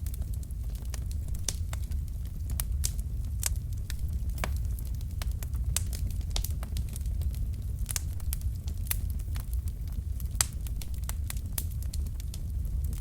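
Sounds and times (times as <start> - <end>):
logs crackling and popping: 0.0 - 13.0
low rumble of flames: 0.0 - 13.0.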